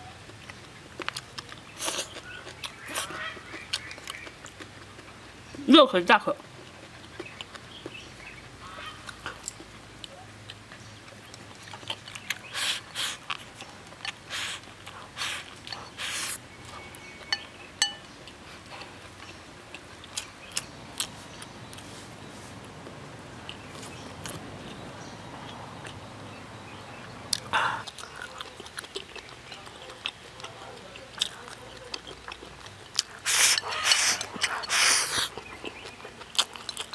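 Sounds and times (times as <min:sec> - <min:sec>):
person chewing: 0:00.2 - 0:05.6, 0:06.4 - 0:24.8, 0:27.3 - 0:36.9.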